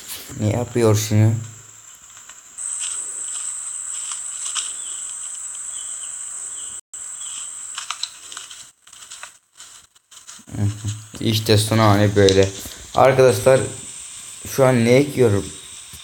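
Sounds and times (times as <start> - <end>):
high-pitched whine: 0.0 - 7.8, 10.2 - 16.0
faint hiss: 0.0 - 16.0.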